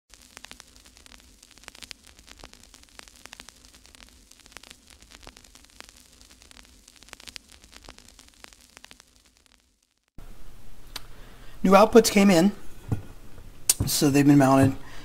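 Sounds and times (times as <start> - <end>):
crackling static clicks and pops: 0.0 - 11.1, 11.7 - 15.0.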